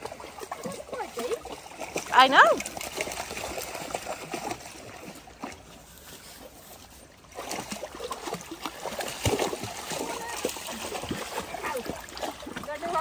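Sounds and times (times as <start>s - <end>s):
dogs splashing in water: 0.0s - 13.0s
person wading through stream: 0.0s - 13.0s
stream trickling: 0.0s - 13.0s.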